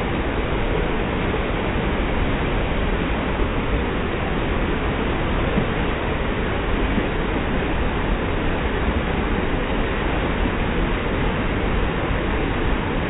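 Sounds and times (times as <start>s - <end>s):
floodwater rushing down rock channel: 0.0s - 13.0s.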